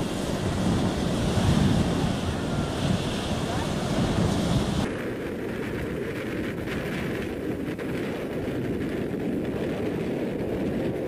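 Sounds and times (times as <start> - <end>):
blizzard wind buffeting microphone: 0.0 - 11.0.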